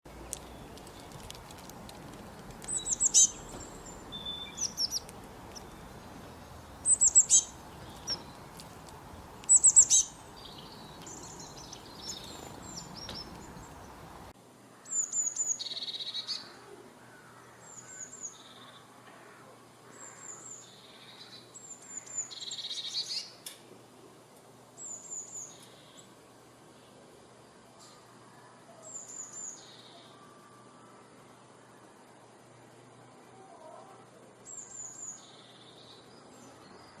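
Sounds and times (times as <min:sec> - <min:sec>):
songbirds chirping: 0:00.1 - 0:37.0
steady background hiss: 0:00.1 - 0:37.0.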